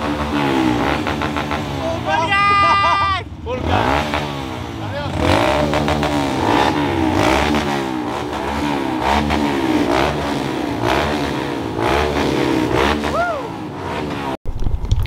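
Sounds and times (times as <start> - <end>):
dirt bike engine revving: 0.0 - 14.4.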